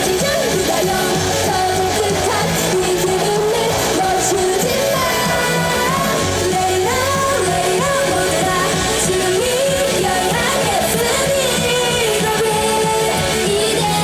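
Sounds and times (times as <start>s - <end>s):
live pop song over loudspeakers: 0.0s - 14.0s.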